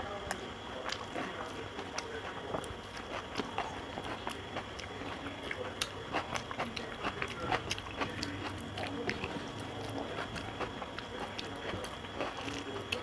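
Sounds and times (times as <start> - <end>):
fingers mixing food on metal plate: 0.0 - 13.0
chewing: 0.1 - 13.0.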